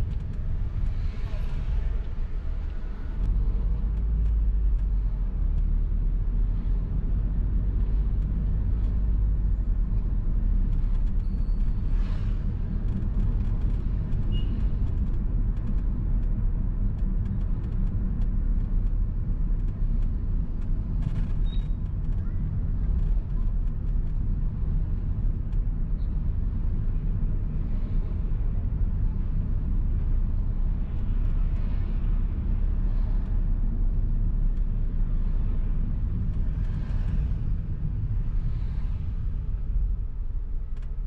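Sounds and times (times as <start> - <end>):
car engine and road noise: 0.0 - 41.0.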